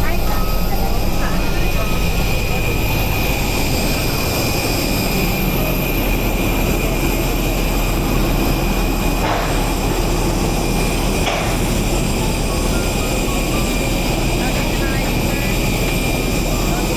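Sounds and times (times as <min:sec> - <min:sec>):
jet aircraft rumble and whine: 0:00.0 - 0:16.9.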